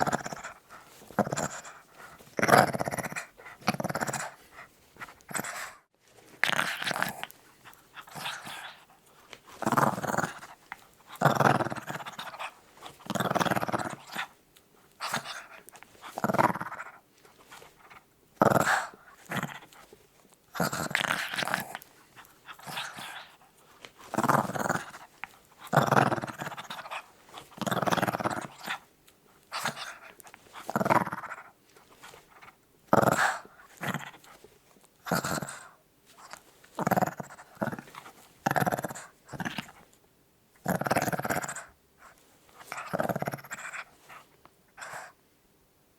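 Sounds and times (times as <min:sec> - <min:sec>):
small dog growling: 0:00.0 - 0:14.4, 0:15.0 - 0:28.9, 0:29.5 - 0:34.4, 0:35.0 - 0:39.9, 0:40.6 - 0:45.2.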